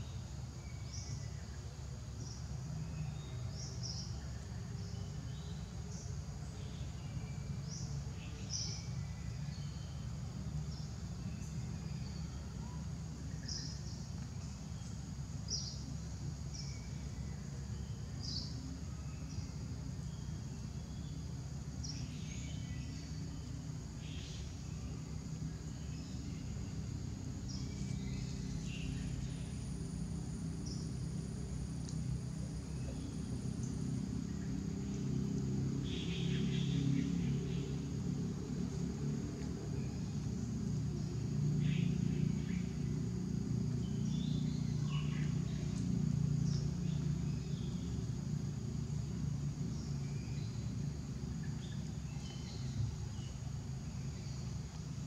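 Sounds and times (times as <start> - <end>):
high insect drone: 0.0 - 55.0
higher insect tone: 0.0 - 55.0.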